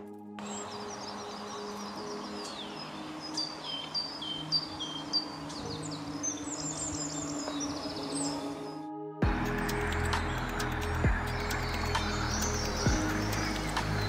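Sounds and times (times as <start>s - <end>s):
whistled birdsong: 0.2s - 14.0s
forest ambience hiss: 0.4s - 14.0s.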